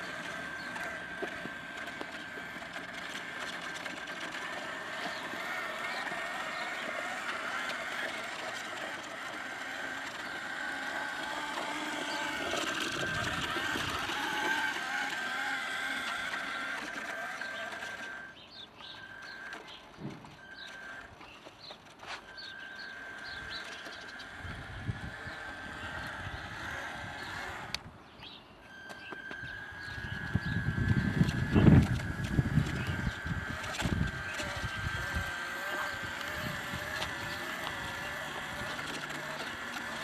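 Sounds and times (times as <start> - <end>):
birds chirping: 0.0 - 40.0
electric motor whine: 0.0 - 40.0.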